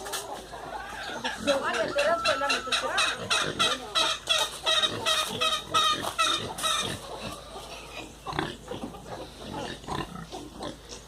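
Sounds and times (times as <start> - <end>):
farm animal calls: 0.0 - 11.0.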